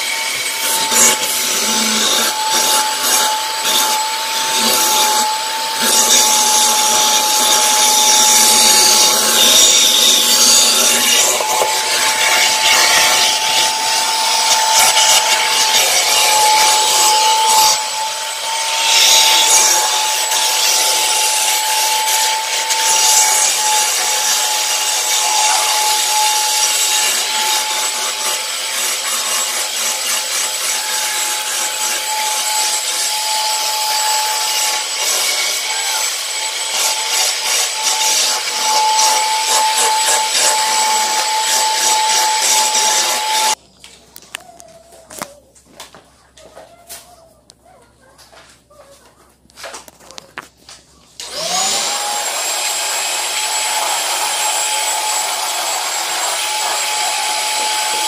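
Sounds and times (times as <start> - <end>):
vacuum cleaner whine: 0.0 - 43.6, 51.1 - 58.0
vacuum tool on carpet: 0.0 - 43.6, 51.2 - 58.0.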